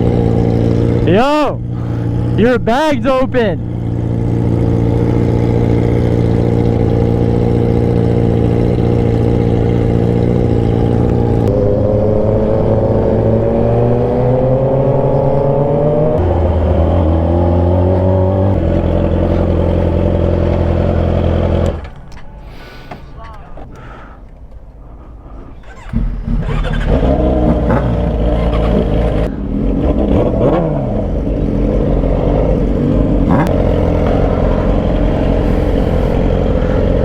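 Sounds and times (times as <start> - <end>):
motorcycle engine revving: 0.0 - 22.0, 25.6 - 37.0.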